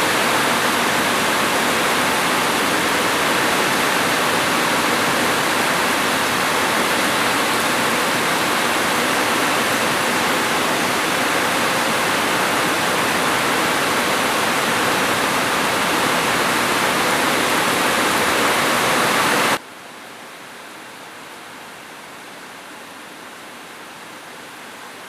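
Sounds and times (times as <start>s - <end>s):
heavy rain on a roof: 0.0s - 25.0s.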